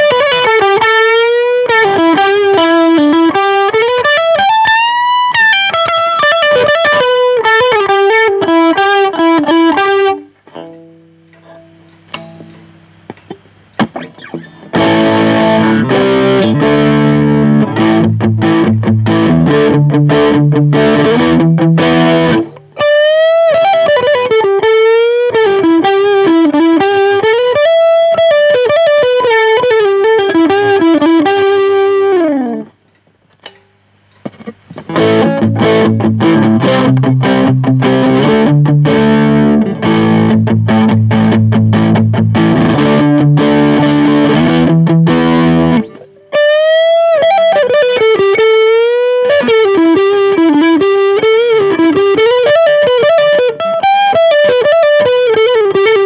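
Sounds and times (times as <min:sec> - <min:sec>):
driven guitar chords: 0:00.0 - 0:56.0
overdriven electric guitar lead: 0:00.0 - 0:56.0.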